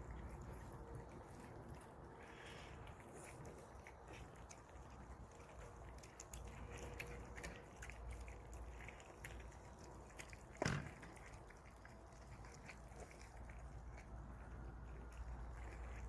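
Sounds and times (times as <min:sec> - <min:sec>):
cats chewing: 0:00.0 - 0:16.0.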